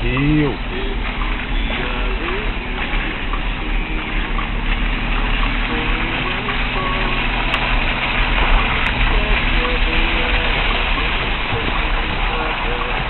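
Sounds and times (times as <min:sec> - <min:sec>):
low engine rumble: 0:00.0 - 0:13.0
tyre and road noise: 0:00.0 - 0:13.0.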